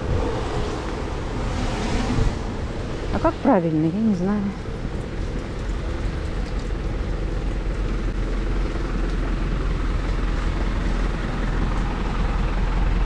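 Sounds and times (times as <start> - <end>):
street noise: 0.0 - 13.0
vehicle engine rumbling: 0.0 - 13.0.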